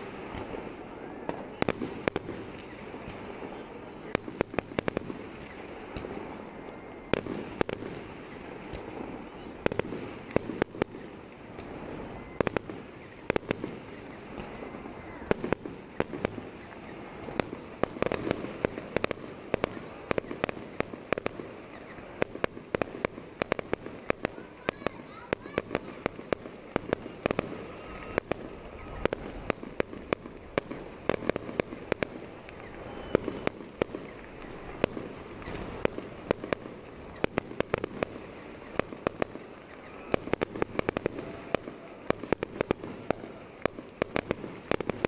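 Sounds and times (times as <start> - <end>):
fireworks bangs and cracks: 0.0 - 45.0
steady background noise: 0.0 - 45.0.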